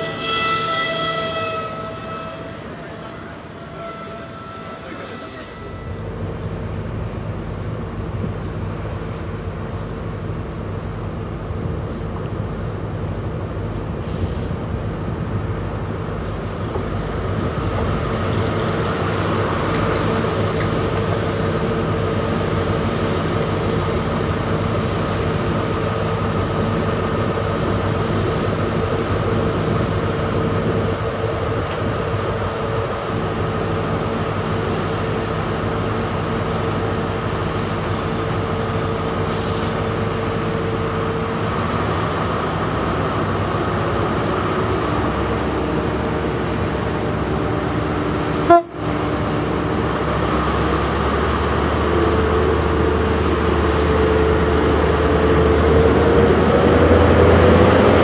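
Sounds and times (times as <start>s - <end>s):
diesel train engine: 0.0s - 58.0s.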